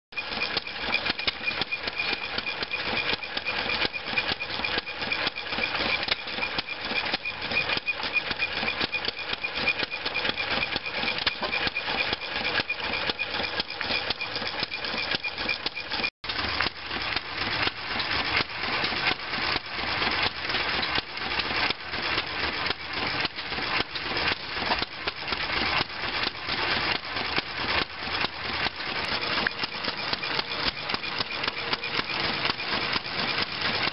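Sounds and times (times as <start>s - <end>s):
small engine putt-putt running: 0.1s - 33.9s.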